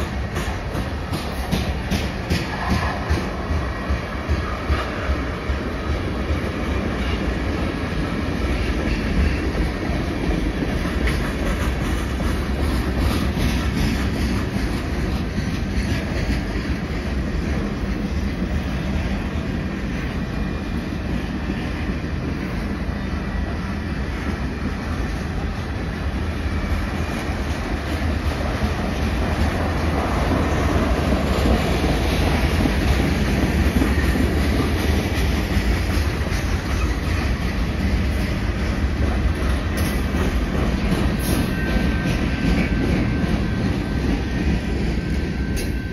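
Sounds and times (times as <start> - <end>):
freight train wheels rolling: 0.0 - 45.9.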